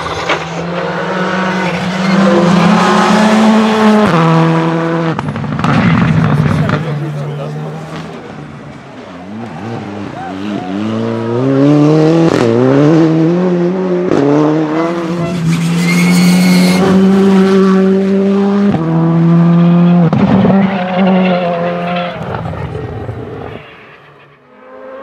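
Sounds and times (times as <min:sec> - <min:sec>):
rally car engine accelerating hard: 0:00.0 - 0:23.6.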